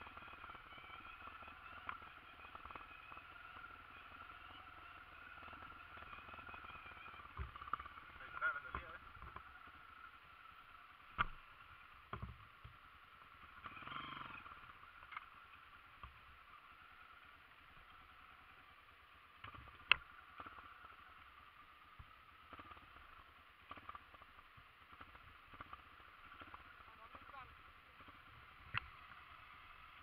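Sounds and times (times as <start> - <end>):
muffled dirt bike engine: 0.0 - 30.0.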